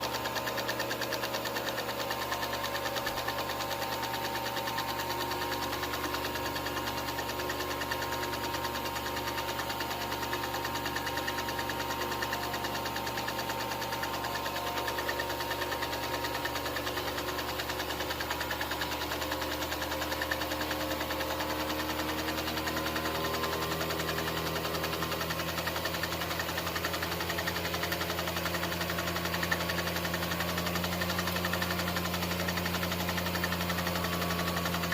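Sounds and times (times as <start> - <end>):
film projector clatter: 0.0 - 34.9
motor hum: 0.0 - 34.9.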